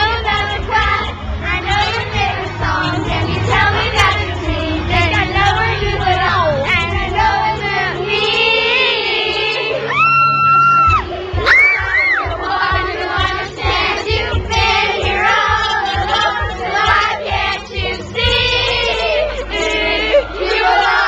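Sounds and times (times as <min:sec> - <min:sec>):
girls singing together: 0:00.0 - 0:21.0
music playing: 0:00.0 - 0:21.0.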